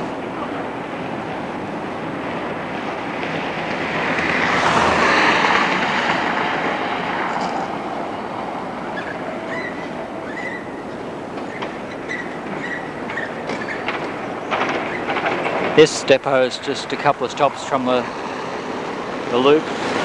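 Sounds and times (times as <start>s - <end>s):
tram passing: 0.0s - 20.0s
tram wheel squeals: 0.0s - 20.0s.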